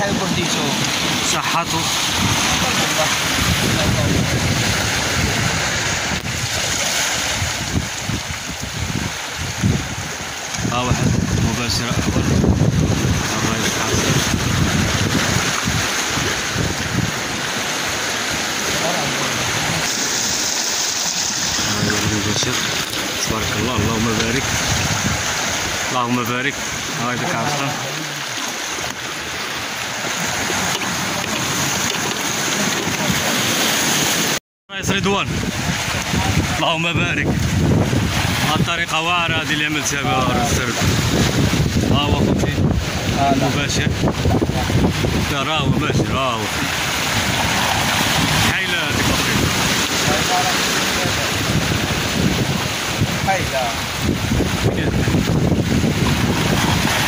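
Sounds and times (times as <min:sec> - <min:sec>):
sea waves splashing on rocks: 0:00.0 - 0:57.0
wind on microphone: 0:00.0 - 0:57.0.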